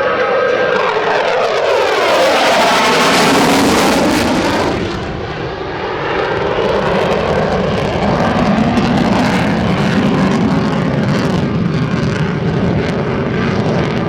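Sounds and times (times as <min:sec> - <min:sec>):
jet fighter passing by: 0:00.0 - 0:14.0.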